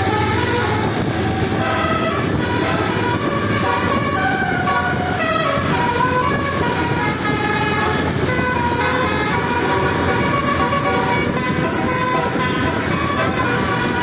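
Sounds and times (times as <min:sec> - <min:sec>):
low vehicle rumble: 0:00.0 - 0:14.0
musical bus horn playing tune: 0:00.0 - 0:14.0.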